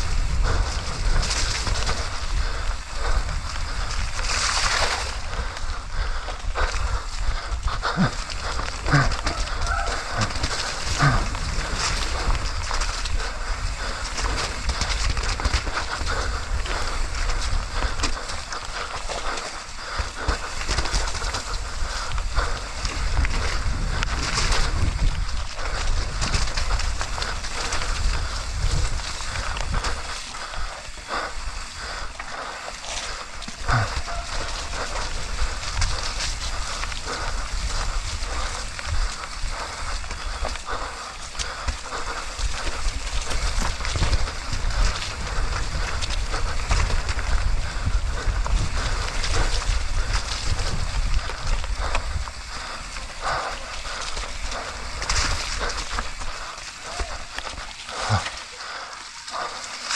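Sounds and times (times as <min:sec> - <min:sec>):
wind on microphone: 0:00.0 - 0:58.4
bike chain rattling: 0:00.0 - 0:59.9
bike tyres on slick ground: 0:00.0 - 0:59.9.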